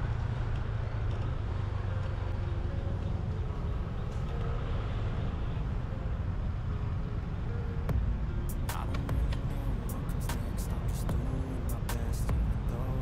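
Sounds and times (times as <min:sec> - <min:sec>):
road noise: 0:00.0 - 0:13.0
vehicle driving low rumble: 0:00.0 - 0:13.0.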